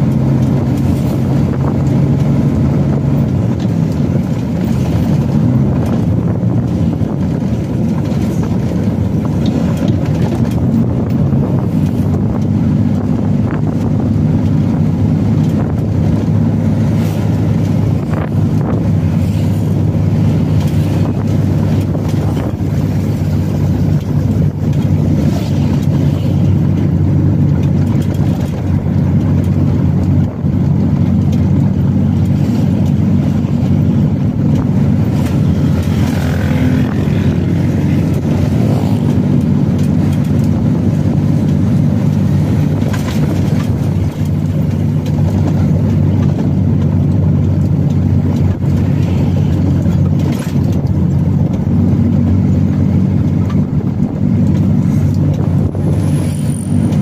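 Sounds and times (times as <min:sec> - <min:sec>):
road noise: 0:00.0 - 0:57.0
truck engine droning: 0:00.0 - 0:57.0.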